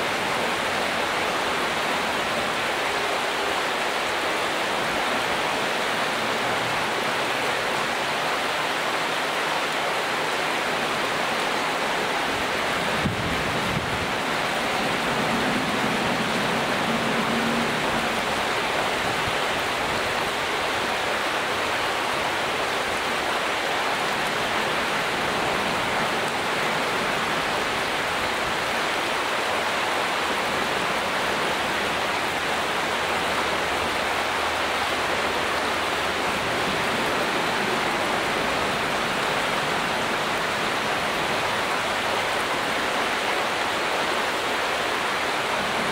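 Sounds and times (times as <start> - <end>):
stream flowing over pebbles: 0.0 - 45.9.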